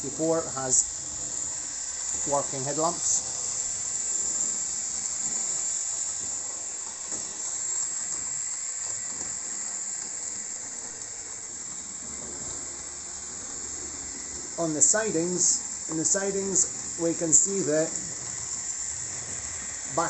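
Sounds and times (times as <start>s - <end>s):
constant high hiss: 0.0s - 20.0s
model train motor whirring: 0.0s - 20.0s.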